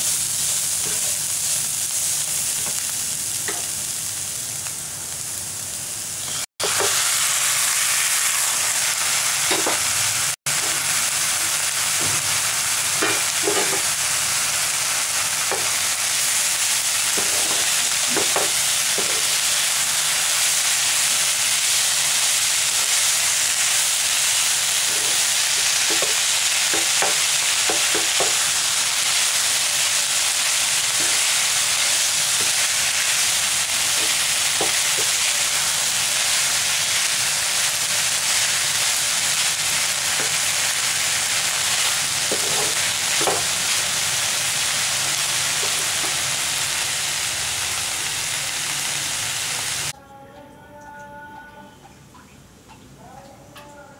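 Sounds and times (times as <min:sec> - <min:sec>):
food sizzling in a pan: 0:00.0 - 0:50.0.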